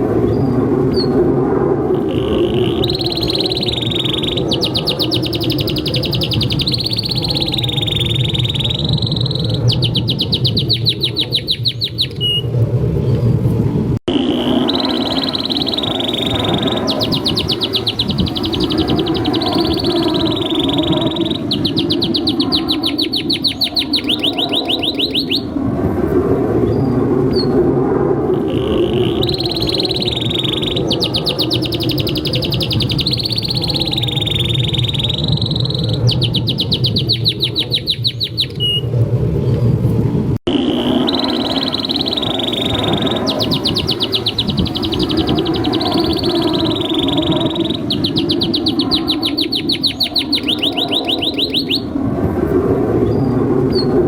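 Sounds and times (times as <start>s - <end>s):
canary singing trills: 2.0s - 12.5s, 14.1s - 25.5s, 28.4s - 38.9s, 40.5s - 51.9s.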